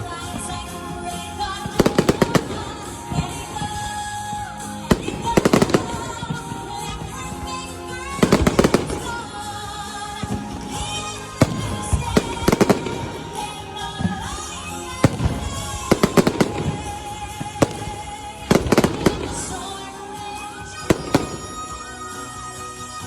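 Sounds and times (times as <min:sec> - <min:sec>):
fireworks bangs and cracks: 0:00.0 - 0:23.0
music playing: 0:00.0 - 0:23.0.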